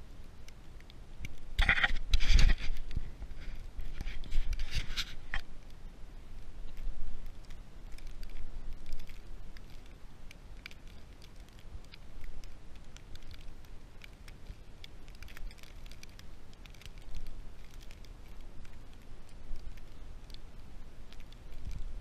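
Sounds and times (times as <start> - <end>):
snow crunching and crackling: 0.0 - 22.0.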